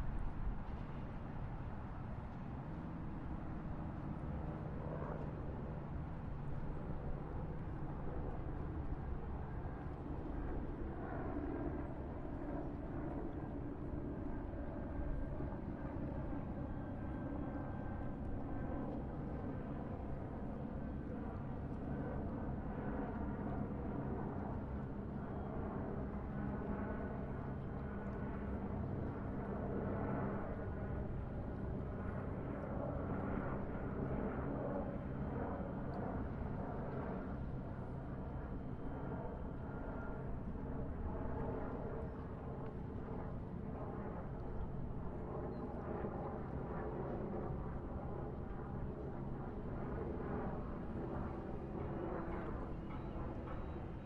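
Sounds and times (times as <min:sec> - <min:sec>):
faint steady tones: 0:02.0 - 0:54.0.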